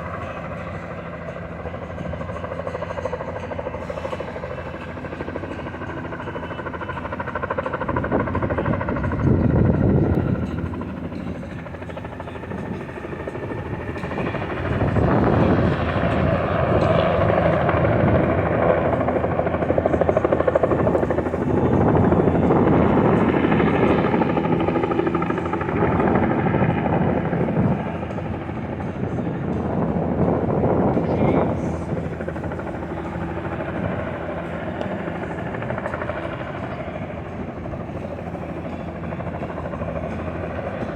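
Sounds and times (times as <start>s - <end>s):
helicopter rotor chopping: 0.0s - 40.9s.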